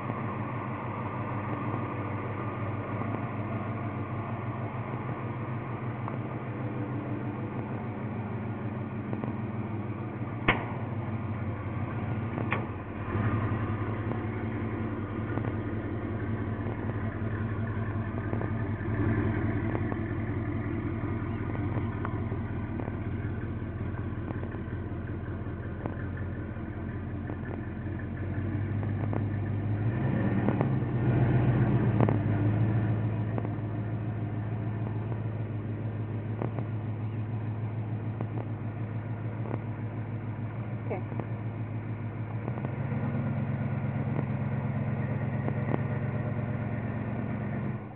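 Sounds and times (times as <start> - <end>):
engine idling through exhaust: 0.0 - 47.9.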